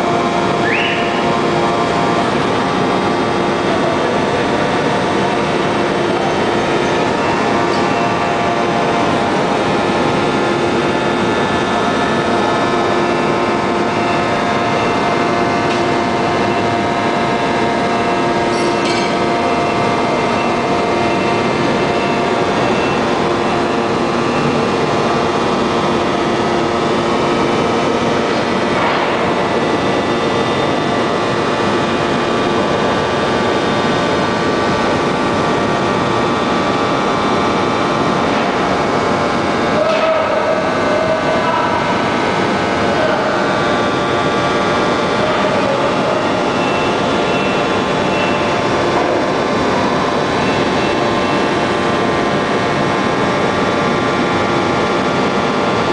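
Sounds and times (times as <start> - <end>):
forging press machinery whining: 0.0 - 55.9.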